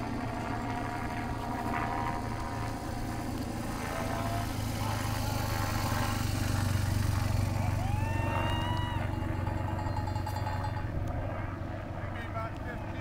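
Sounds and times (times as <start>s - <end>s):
motorcycle riding past: 0.0s - 11.6s.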